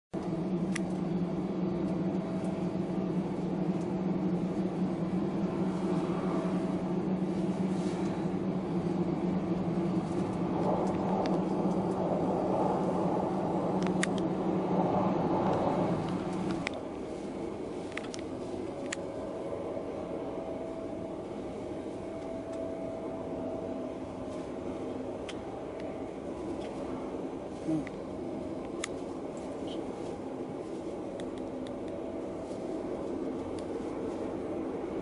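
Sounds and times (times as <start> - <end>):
low mechanical hum: 0.2 - 35.0
rushing noise: 0.3 - 35.0.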